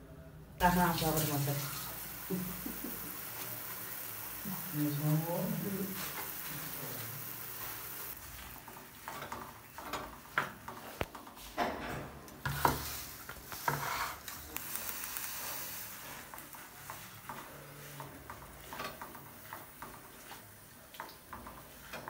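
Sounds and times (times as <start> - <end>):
steady hiss: 0.6 - 9.0, 12.4 - 22.0.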